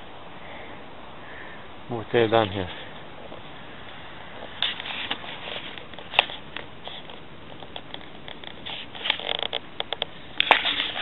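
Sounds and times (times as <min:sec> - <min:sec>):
dry grass and leaves crackling: 0:02.1 - 0:11.0.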